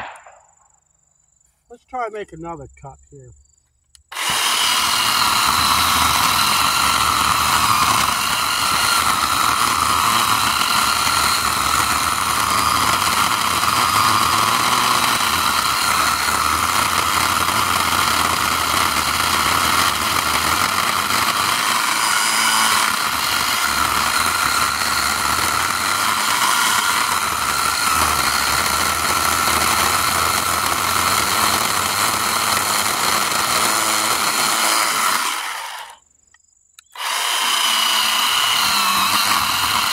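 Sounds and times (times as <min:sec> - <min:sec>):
chainsaw cutting wood: 0:04.0 - 0:36.0, 0:36.8 - 0:39.9.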